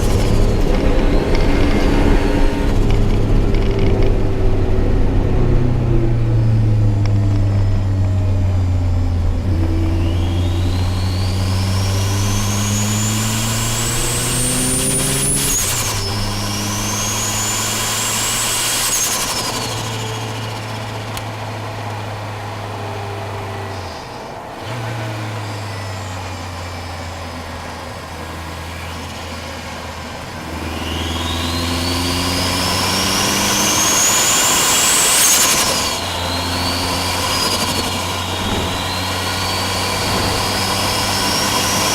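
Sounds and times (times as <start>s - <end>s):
car engine accelerating hard: 0.0s - 41.9s
high engine whine: 0.0s - 41.9s.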